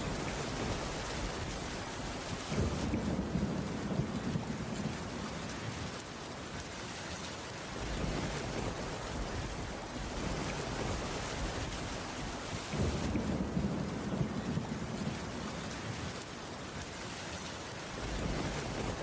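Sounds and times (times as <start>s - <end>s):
rain on a wooden roof: 0.0s - 19.0s.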